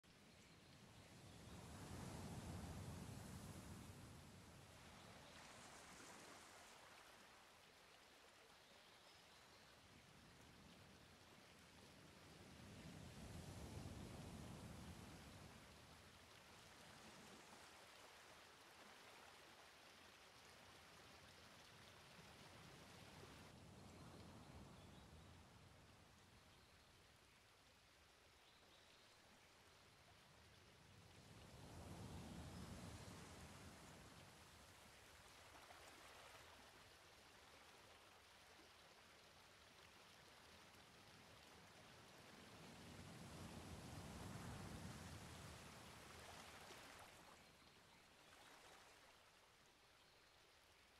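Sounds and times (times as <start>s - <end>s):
faint steady hiss: 0.0s - 50.9s.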